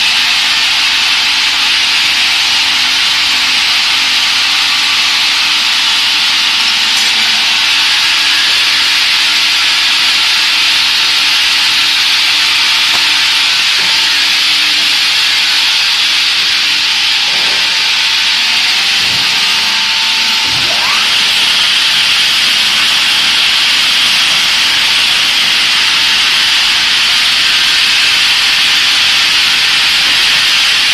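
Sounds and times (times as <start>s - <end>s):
woodworking saw machine running: 0.0s - 30.9s.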